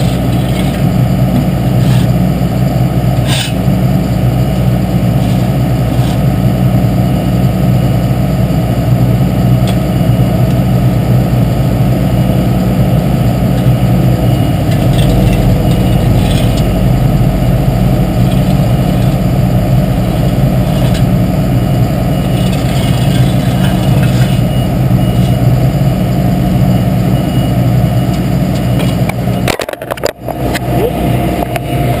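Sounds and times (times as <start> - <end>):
paving machinery engine droning: 0.0 - 32.0.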